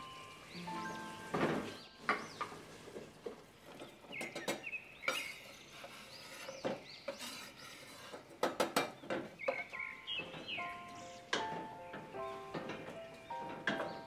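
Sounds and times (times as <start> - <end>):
birds chirping: 0.0 - 8.2, 8.8 - 14.0.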